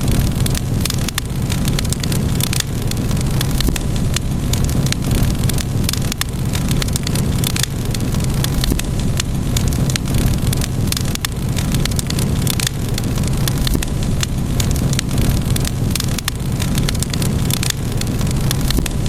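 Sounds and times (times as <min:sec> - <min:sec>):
low roar of flames: 0:00.0 - 0:19.0
wood fire crackling and popping: 0:00.0 - 0:19.0.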